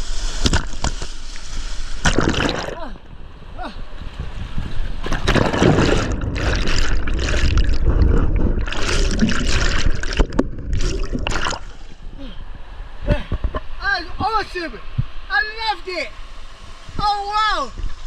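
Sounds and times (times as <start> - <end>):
water rushing and splashing: 0.0 - 18.0.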